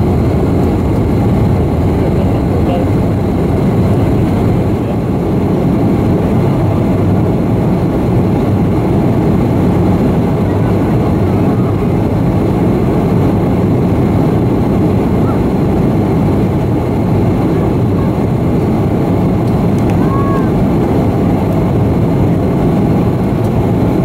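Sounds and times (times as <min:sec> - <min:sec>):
jet engines rumbling: 0:00.0 - 0:24.0
rushing air: 0:00.0 - 0:24.0.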